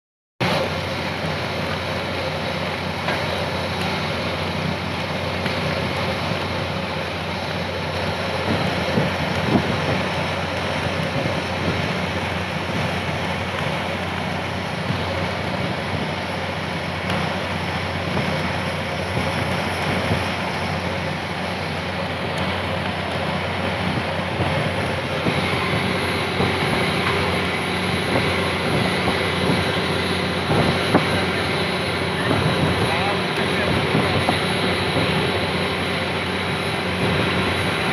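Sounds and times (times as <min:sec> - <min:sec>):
boat engine drone: 0:00.4 - 0:37.9
rushing water: 0:00.4 - 0:37.9
wind: 0:00.4 - 0:37.9.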